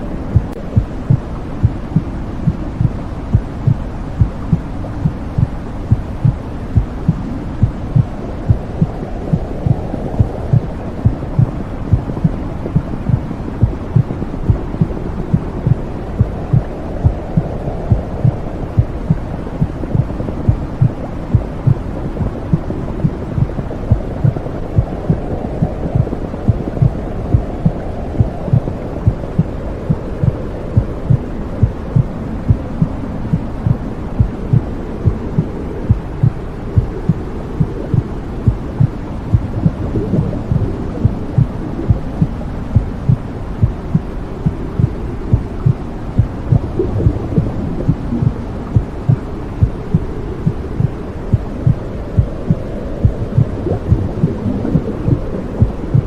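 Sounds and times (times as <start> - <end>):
low steady whooshing: 0.0 - 56.0
heartbeat thumping: 0.3 - 56.0.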